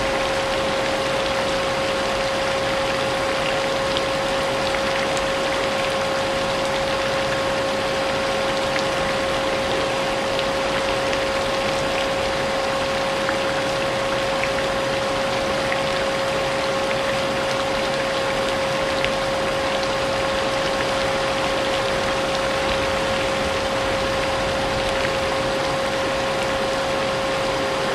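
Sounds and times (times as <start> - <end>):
rain pattering: 0.0 - 27.9.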